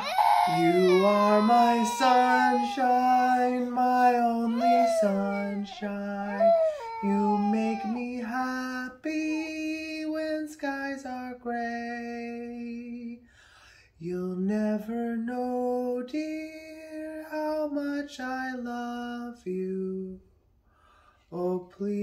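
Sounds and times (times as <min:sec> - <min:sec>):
person singing wordless tune: 0:00.0 - 0:13.2, 0:14.0 - 0:20.2, 0:21.3 - 0:22.0.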